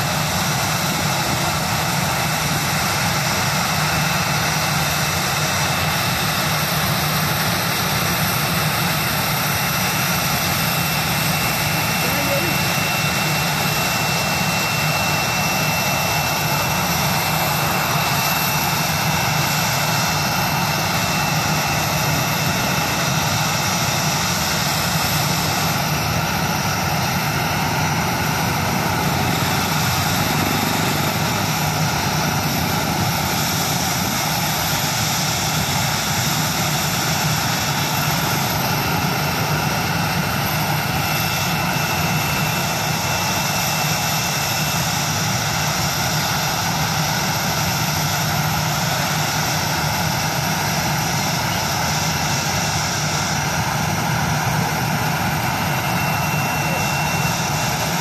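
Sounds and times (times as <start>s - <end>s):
jet engines running at low power: 0.0s - 58.0s.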